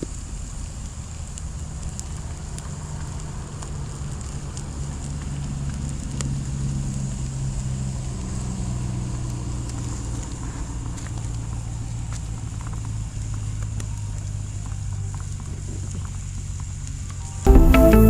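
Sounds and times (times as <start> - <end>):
charcoal fire crackling and popping: 0.0 - 17.2.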